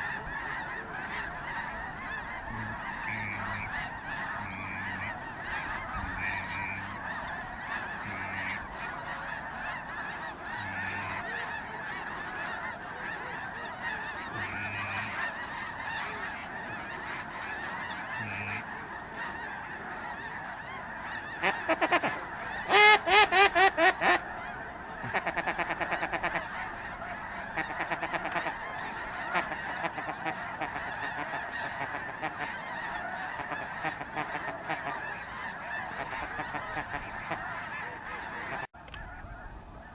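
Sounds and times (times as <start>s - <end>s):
flock of geese honking: 0.0s - 39.9s
rapid goose honking calls: 0.0s - 39.9s.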